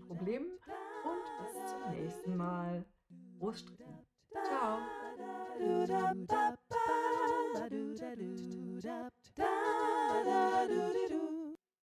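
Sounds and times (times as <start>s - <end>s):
a cappella singing: 0.0s - 11.6s.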